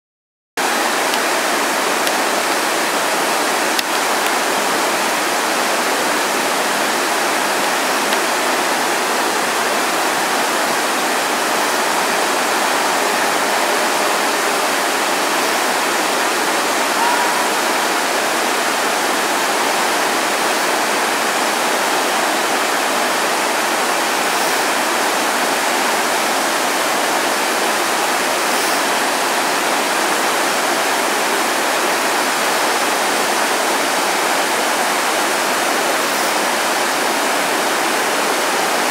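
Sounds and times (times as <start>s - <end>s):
waterfall rushing: 0.6s - 38.9s.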